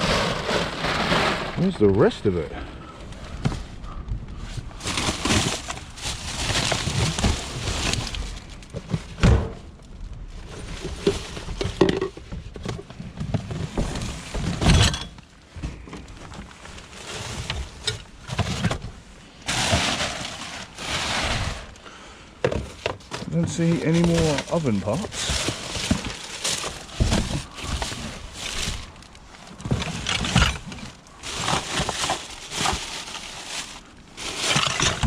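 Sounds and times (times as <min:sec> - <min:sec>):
rustling: 0:00.0 - 0:35.0.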